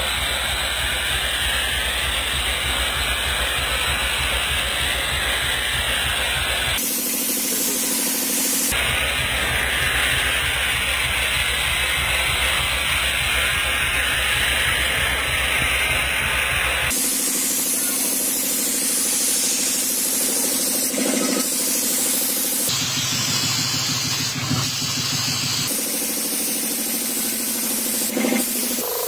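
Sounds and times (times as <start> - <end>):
paint spray gun hissing: 0.0 - 29.0.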